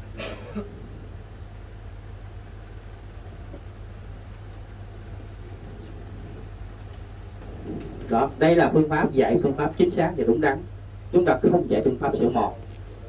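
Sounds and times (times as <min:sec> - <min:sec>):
low hum with faint hiss: 0:00.0 - 0:13.0.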